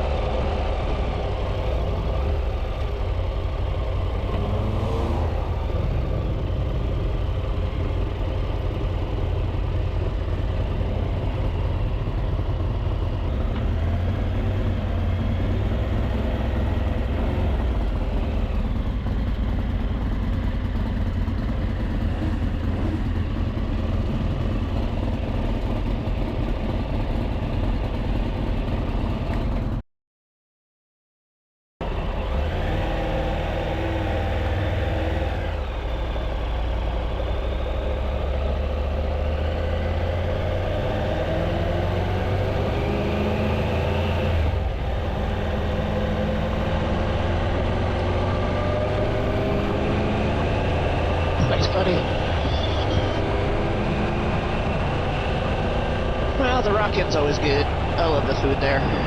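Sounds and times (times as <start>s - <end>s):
motorcycle engine running: 0.0s - 29.8s, 31.8s - 59.0s.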